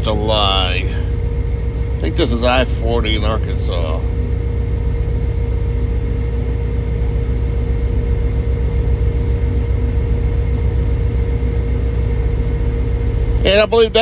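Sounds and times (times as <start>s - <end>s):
thin steady whine: 0.0s - 14.0s
truck engine and road rumble: 0.0s - 14.0s.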